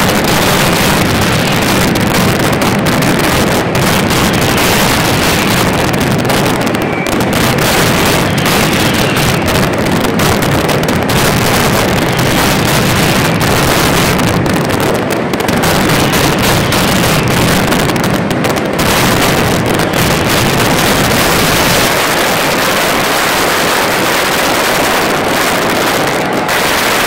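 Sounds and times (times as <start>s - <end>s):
fireworks barrage bangs and crackling: 0.0s - 27.0s.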